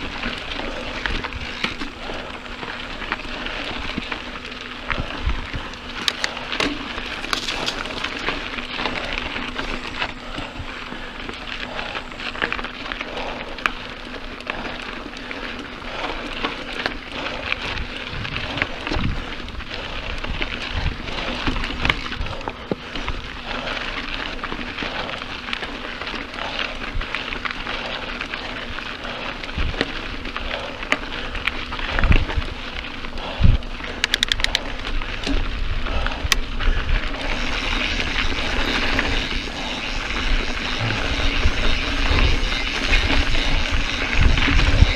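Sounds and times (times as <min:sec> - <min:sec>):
bike tyres rolling over gravel: 0:00.0 - 0:44.9.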